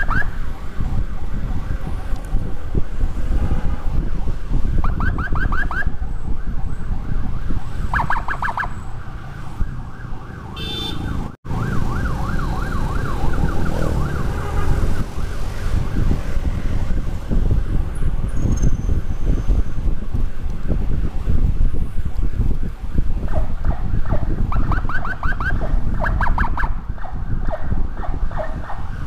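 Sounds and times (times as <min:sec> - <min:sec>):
electronic emergency siren: 0:00.0 - 0:02.5, 0:03.9 - 0:16.8, 0:19.9 - 0:29.0
wind and motorcycle engine rumble: 0:00.0 - 0:29.0.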